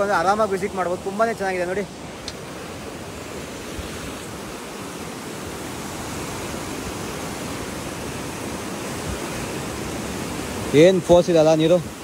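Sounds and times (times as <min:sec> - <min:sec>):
river rushing through rapids: 0:00.0 - 0:12.0.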